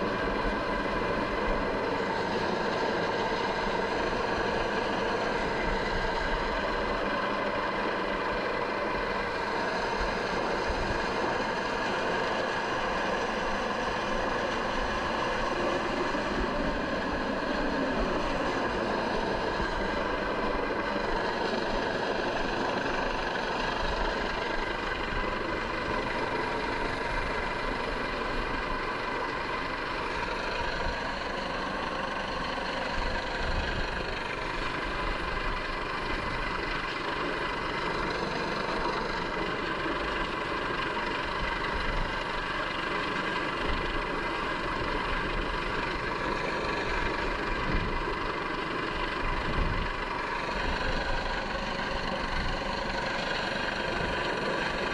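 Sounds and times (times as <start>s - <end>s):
helicopter hovering: 0.0s - 54.9s.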